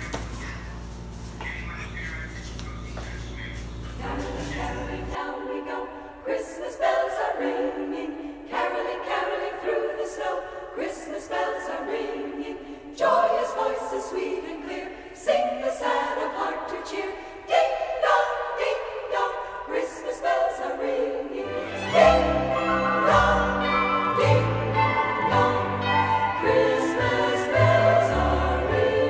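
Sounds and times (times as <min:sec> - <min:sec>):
choir singing held chords: 0:04.0 - 0:29.0.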